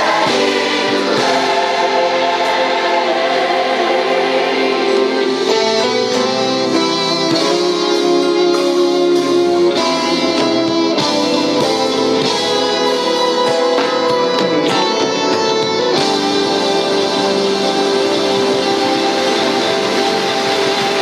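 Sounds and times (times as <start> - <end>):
instrumental guitar music: 0.0 - 21.0.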